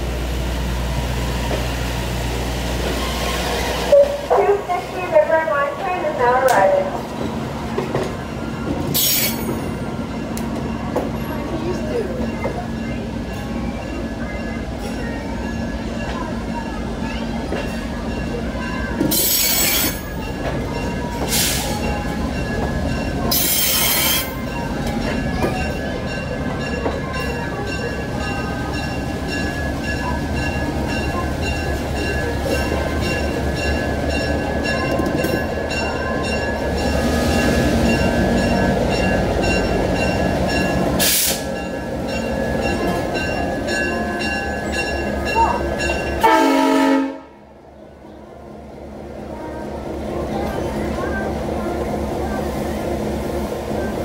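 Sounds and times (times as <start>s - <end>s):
diesel locomotive passing: 0.0s - 54.0s
train wheels rumbling on rails: 0.0s - 54.0s.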